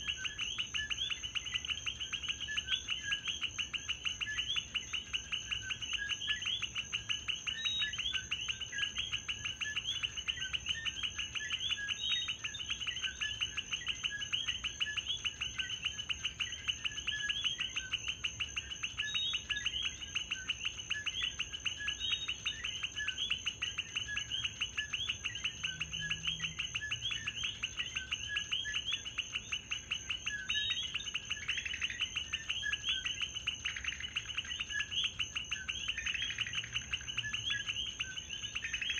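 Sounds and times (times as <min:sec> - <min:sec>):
frogs calling two-note calls: 0:00.0 - 0:38.9.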